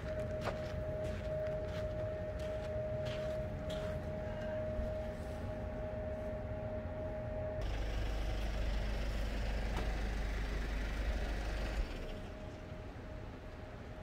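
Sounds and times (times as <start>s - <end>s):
steady high tone: 0.0s - 14.0s.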